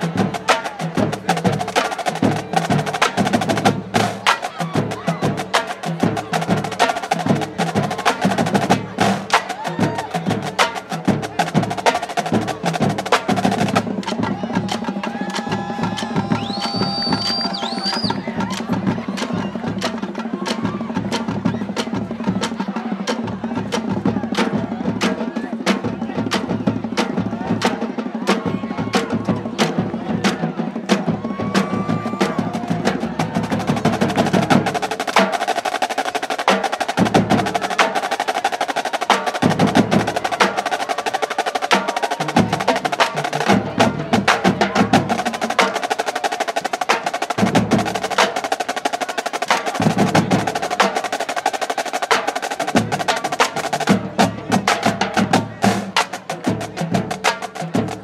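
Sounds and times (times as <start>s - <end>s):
snare drum strokes: 0.0s - 21.9s, 30.8s - 58.0s.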